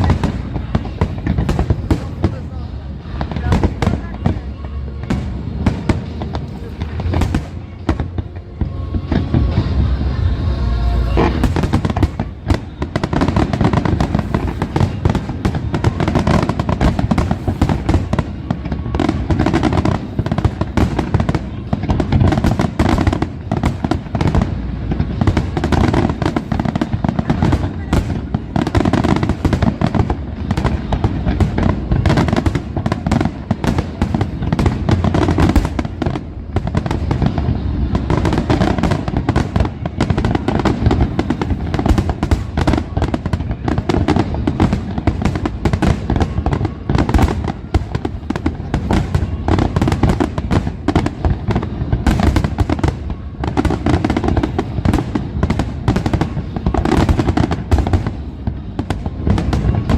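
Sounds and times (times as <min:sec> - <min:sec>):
firework shell bursts and crackles: 0:00.0 - 0:59.9.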